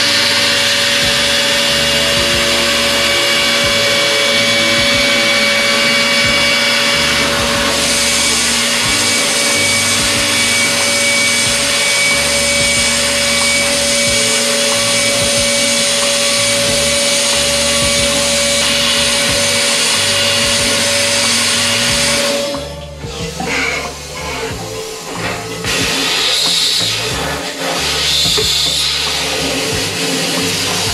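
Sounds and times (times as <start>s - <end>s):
low hum: 0.0s - 30.9s
milling spindle whine and hiss: 0.0s - 30.9s.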